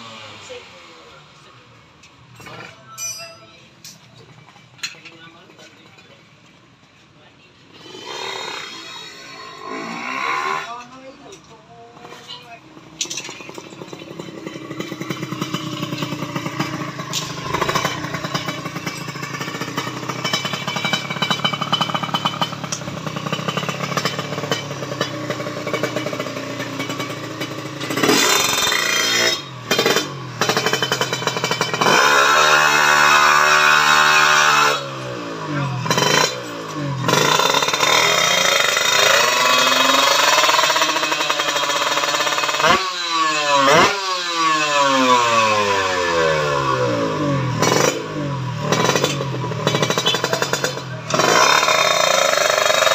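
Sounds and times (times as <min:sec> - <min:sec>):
motorcycle engine revving: 0:00.0 - 0:06.2, 0:07.6 - 0:52.9.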